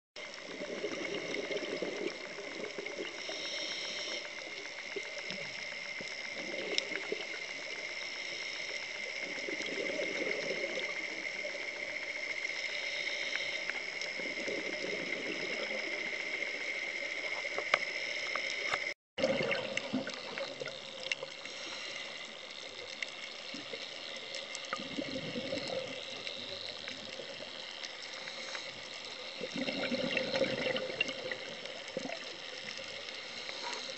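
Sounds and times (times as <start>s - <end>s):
regulator bubbles bubbling: 0.2s - 8.0s, 9.0s - 12.4s, 13.8s - 17.7s, 18.6s - 33.9s
muffled underwater noise: 0.2s - 33.9s.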